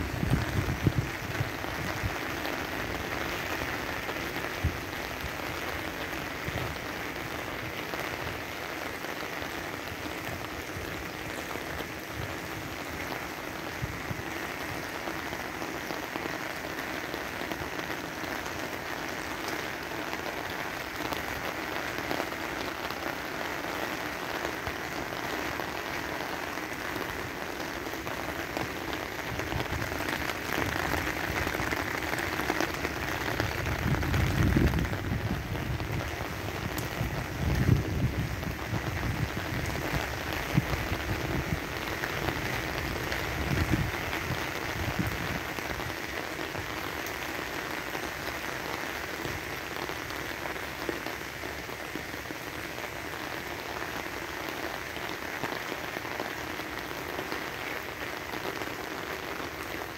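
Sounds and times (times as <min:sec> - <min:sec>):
heavy rain on umbrella: 0:00.0 - 0:59.9
rain on lake surface: 0:00.0 - 0:59.9.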